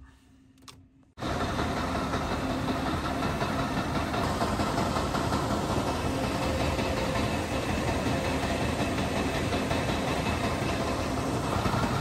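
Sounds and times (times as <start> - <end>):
fans and motors droning: 0.0 - 12.0.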